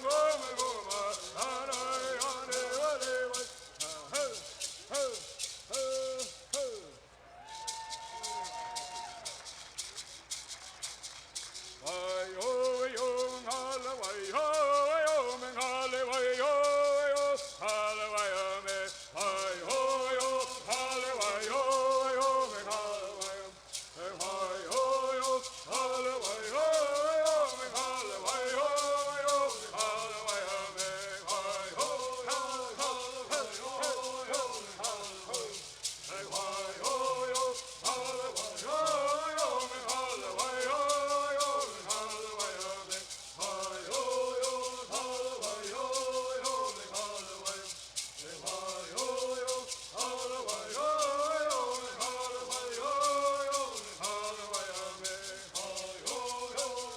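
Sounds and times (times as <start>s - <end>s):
gourd rattles shaking: 0.0s - 6.8s, 7.6s - 56.9s
men singing in unison: 0.0s - 7.0s, 11.8s - 56.9s.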